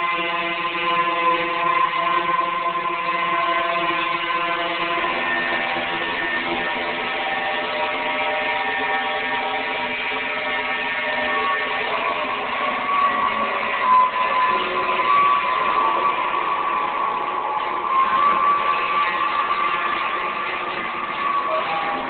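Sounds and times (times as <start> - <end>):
synthesizer drone: 0.0 - 22.0.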